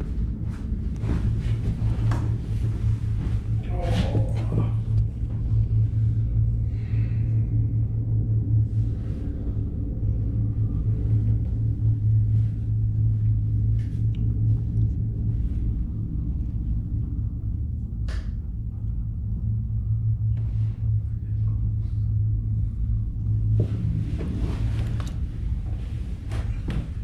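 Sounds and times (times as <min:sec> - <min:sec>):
gondola cabin rumble: 0:00.0 - 0:27.0.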